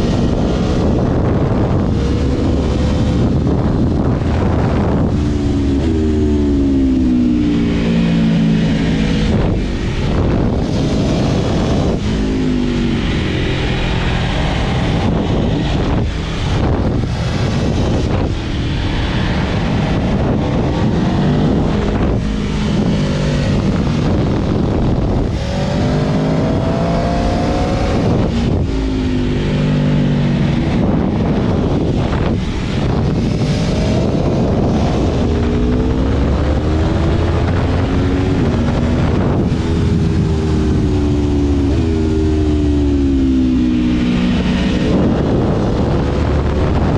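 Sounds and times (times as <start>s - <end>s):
motorcycle engine revving: 0.0s - 46.9s
wind rushing: 0.0s - 46.9s.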